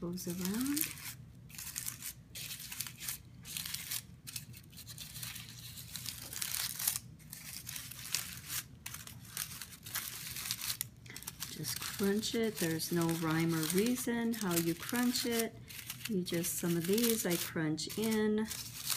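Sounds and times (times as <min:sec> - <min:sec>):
paper liner crinkling: 0:00.1 - 0:18.9.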